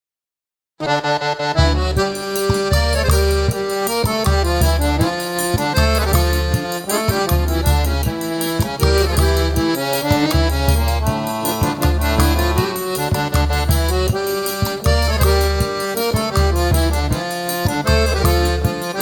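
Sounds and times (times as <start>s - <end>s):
accordion melody: 0.8s - 19.0s
percussion: 1.6s - 19.0s.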